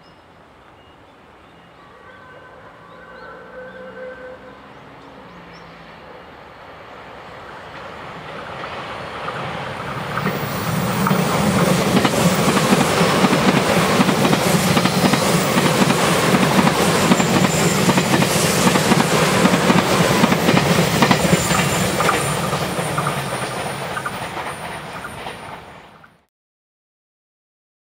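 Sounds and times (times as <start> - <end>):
train passing at speed: 0.2 - 26.3.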